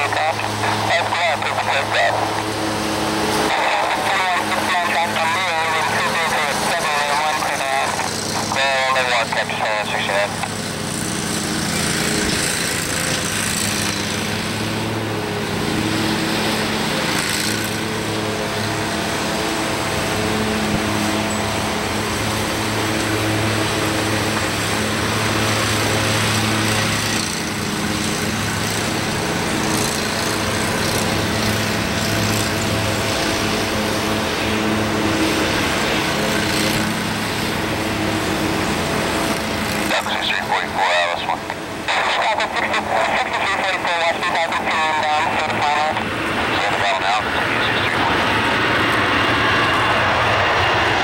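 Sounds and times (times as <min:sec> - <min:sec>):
jet engines at takeoff power: 0:00.0 - 0:51.0.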